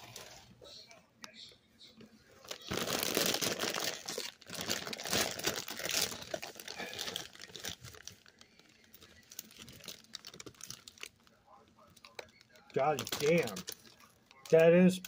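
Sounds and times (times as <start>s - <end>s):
chip bag crinkling: 2.4s - 15.0s.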